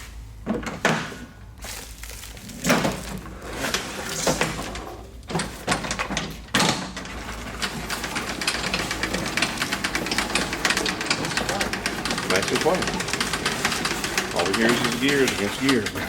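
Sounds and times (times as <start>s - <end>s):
knocks and clunks: 0.4s - 16.0s
mower gears clicking: 0.5s - 16.0s.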